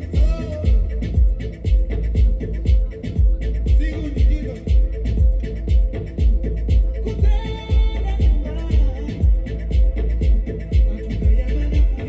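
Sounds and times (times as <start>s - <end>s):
dance music: 0.0s - 12.0s
heavy bass kick: 0.0s - 12.0s.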